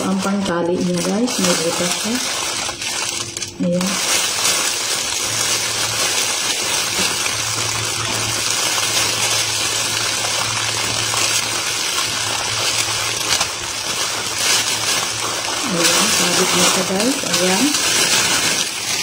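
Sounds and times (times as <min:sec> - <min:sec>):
plastic bag rustling and crinkling: 0:00.0 - 0:19.0.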